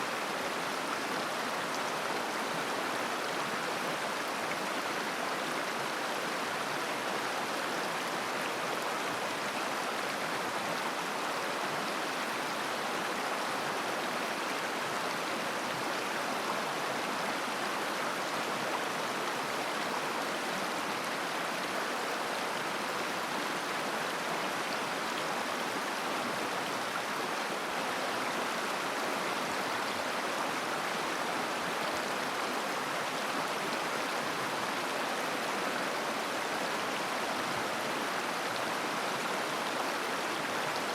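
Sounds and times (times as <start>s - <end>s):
river flowing over stones: 0.0s - 40.9s.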